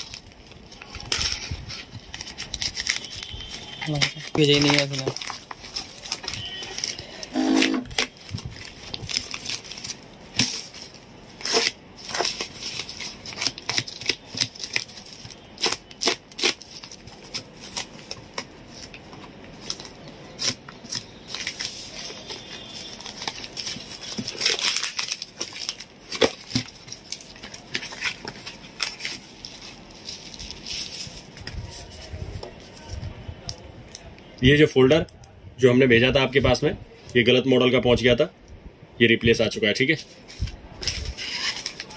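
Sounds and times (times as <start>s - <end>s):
wrapping torn and crumpled: 0.0s - 7.3s, 7.9s - 33.1s, 40.0s - 41.9s.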